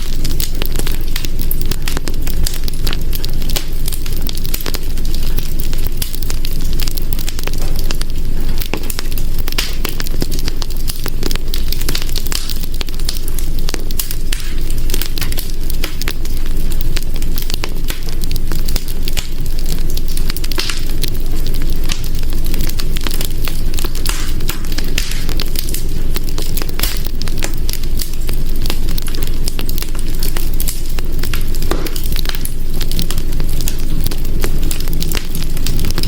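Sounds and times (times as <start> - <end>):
wood fire crackling in hearth: 0.0 - 36.0.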